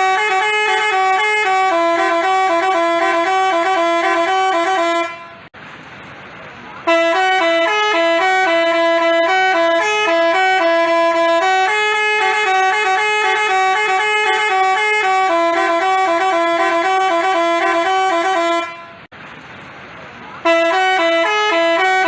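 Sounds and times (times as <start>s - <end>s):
bus horn playing a tune: 0.0s - 5.5s, 6.8s - 19.1s, 20.4s - 22.0s.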